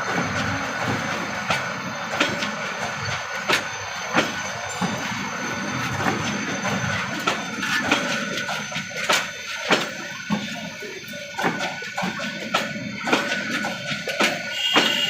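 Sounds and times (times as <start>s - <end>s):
train rumbling: 0.0s - 15.0s
wheels clicking over rail joints: 0.0s - 15.0s.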